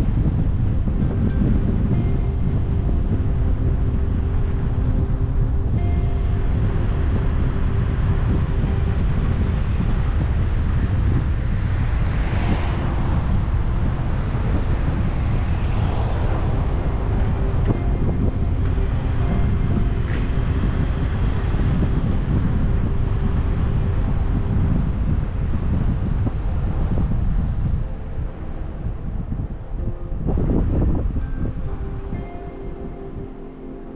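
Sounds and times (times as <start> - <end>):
faint humming tones: 0.0 - 33.9
wind buffeting the microphone: 0.0 - 33.9.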